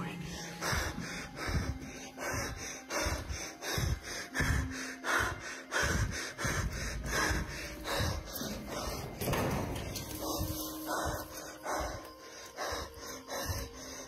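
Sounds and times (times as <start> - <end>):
man breathing heavily: 0.0 - 14.0.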